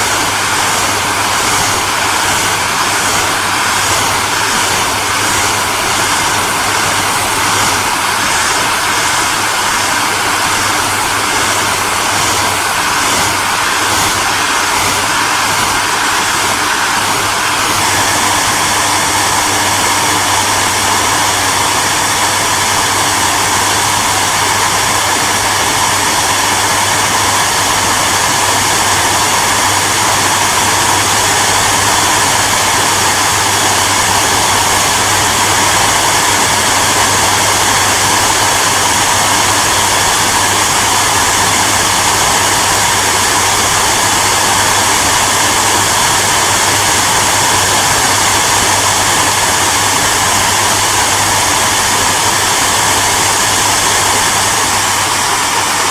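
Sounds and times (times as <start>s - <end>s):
hair dryer running: 0.0s - 55.9s.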